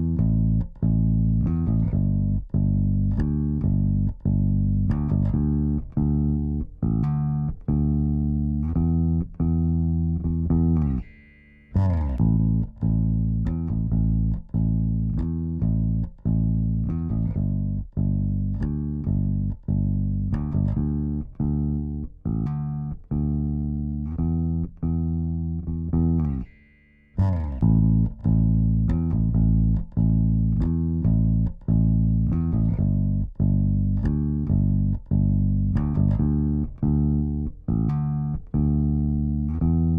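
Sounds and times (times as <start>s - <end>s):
electric bass guitar line: 0.0s - 39.9s.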